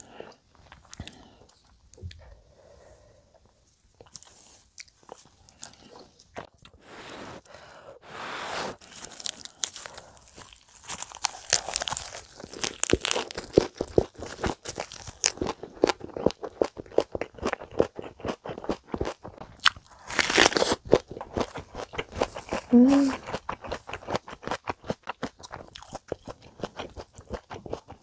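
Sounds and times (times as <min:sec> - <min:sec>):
crisp crunchy chewing: 0:00.0 - 0:02.1, 0:04.0 - 0:06.8, 0:08.8 - 0:28.0.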